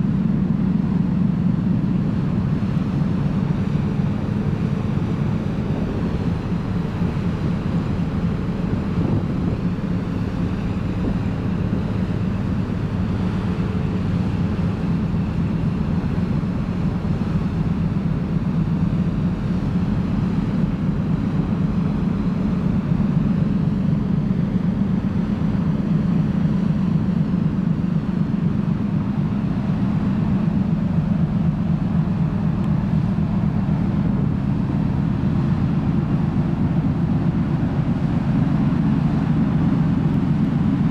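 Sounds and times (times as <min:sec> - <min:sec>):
ship engines rumbling: 0:00.1 - 0:40.9.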